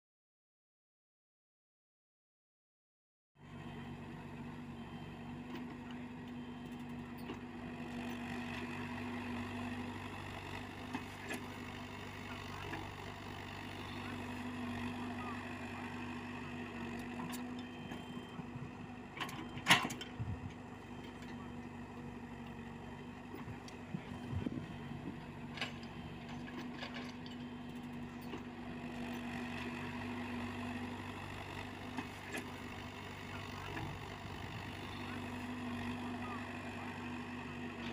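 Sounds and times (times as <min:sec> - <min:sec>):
excavator diesel engine running: 0:03.4 - 0:37.9.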